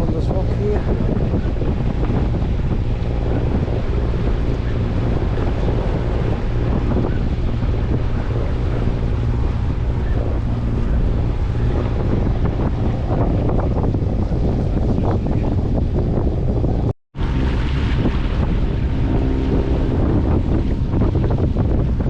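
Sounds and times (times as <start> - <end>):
low drone: 0.0 - 22.0
water washing along hull: 0.0 - 22.0
wind buffeting microphone: 0.0 - 22.0.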